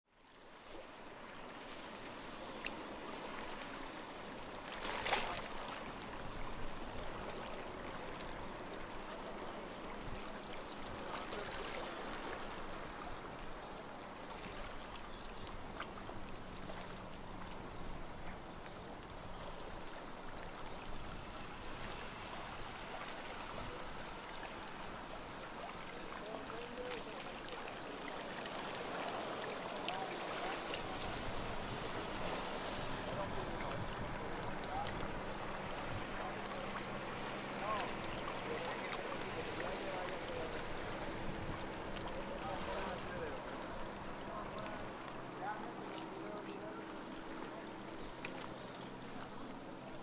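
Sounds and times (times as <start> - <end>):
small waves lapping on shore: 0.1 - 50.0.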